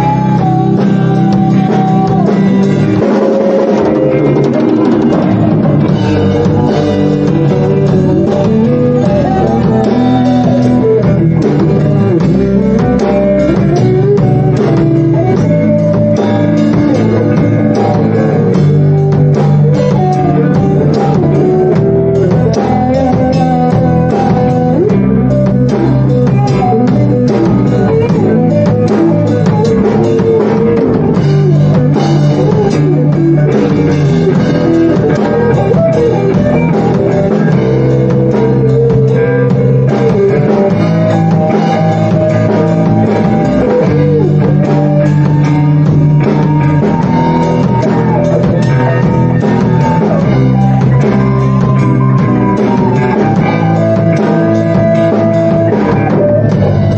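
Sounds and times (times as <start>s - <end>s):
rock music with guitar and drums: 0.0s - 56.9s.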